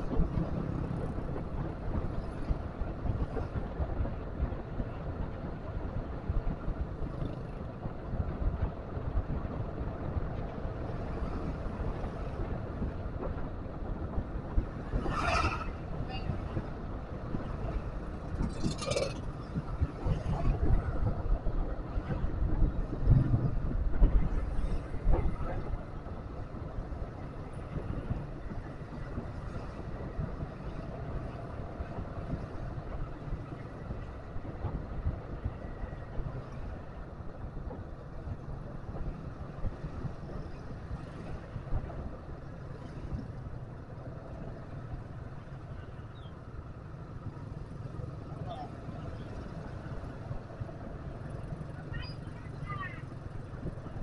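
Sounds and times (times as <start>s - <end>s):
wind on microphone: 0.0s - 47.4s
motorbike engines: 0.0s - 54.0s
road rumble: 0.0s - 54.0s.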